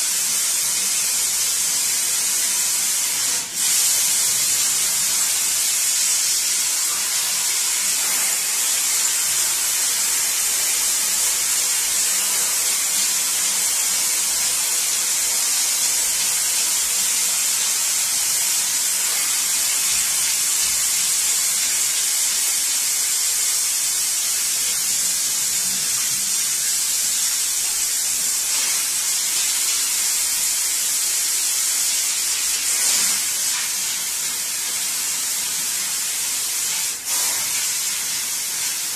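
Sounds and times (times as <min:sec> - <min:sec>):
water jet spraying from hose: 0:00.0 - 0:38.9.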